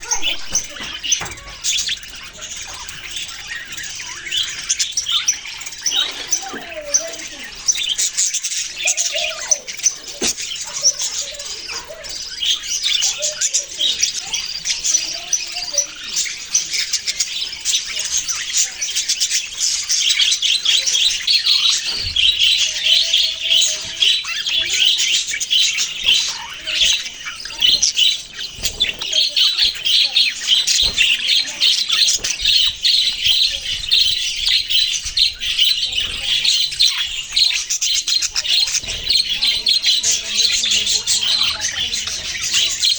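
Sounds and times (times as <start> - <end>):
budgerigars chirping and squawking: 0.0 - 42.9.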